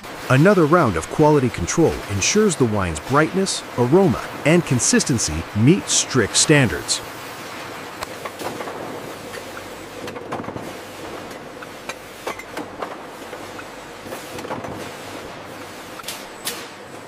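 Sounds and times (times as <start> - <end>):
machine hiss and hum: 0.0 - 17.0.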